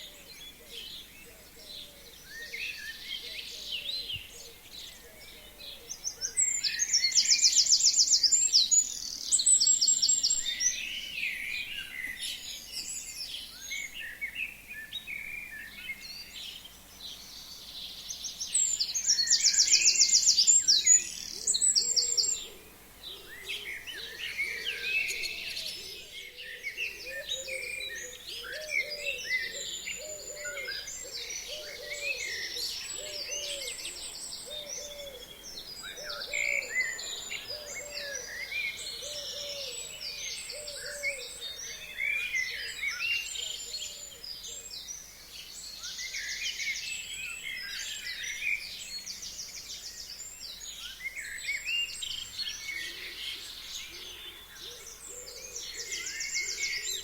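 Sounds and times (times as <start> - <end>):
forest songbirds chirping: 0.0 - 57.0.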